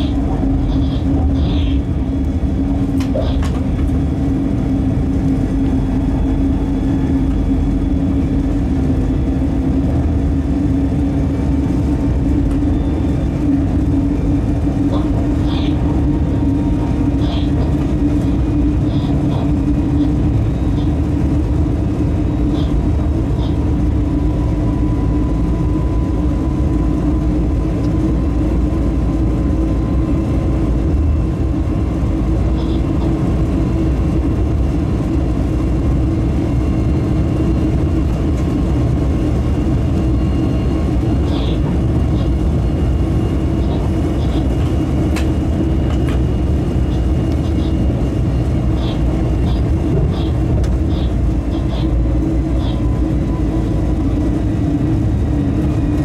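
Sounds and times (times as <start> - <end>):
locomotive engine drone: 0.0 - 56.0
wheel and track rumble: 0.0 - 56.0.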